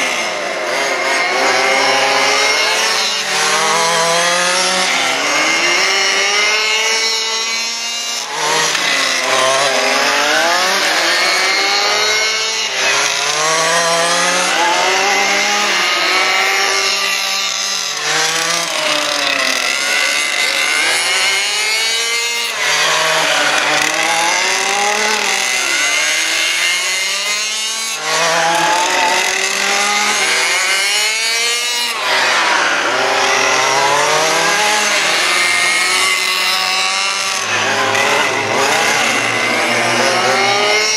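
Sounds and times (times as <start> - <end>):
small petrol engines revving: 0.0 - 40.9.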